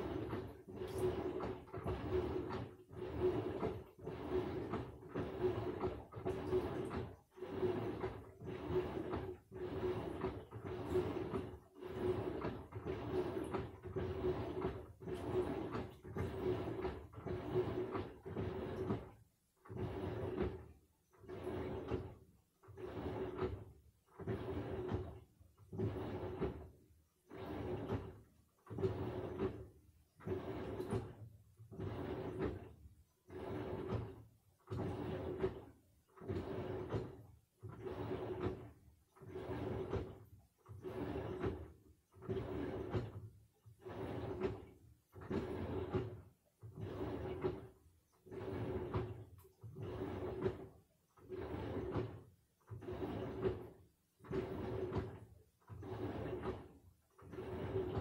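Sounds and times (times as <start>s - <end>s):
washing machine motor humming: 0.0s - 58.0s
water sloshing: 0.0s - 58.0s.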